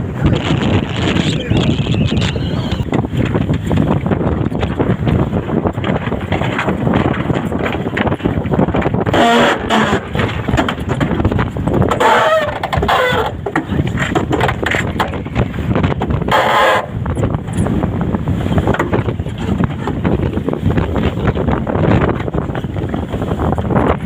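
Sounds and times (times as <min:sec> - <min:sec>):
rushing water: 0:00.0 - 0:24.0
wind buffeting microphone: 0:00.0 - 0:24.0.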